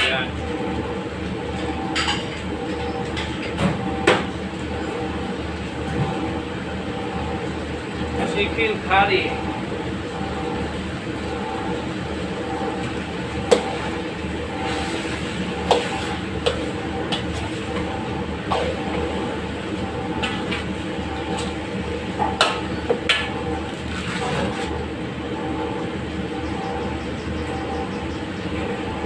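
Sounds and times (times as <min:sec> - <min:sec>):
steady background drone: 0:00.0 - 0:29.0.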